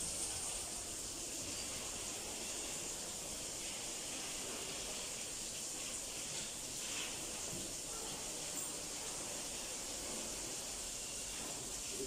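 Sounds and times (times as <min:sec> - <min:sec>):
shower heads spraying water: 0:00.0 - 0:12.0.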